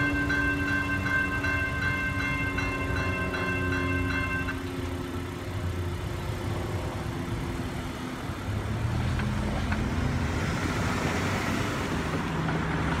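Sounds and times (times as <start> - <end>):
cars driving over railroad crossing: 0.0 - 13.0.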